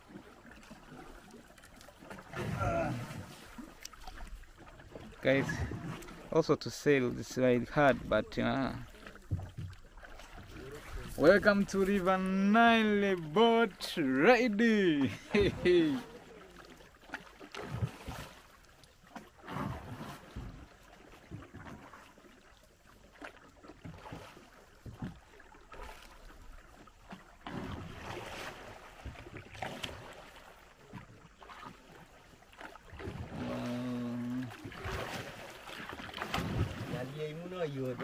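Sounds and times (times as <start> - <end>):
paddles splashing in water: 0.0 - 38.0.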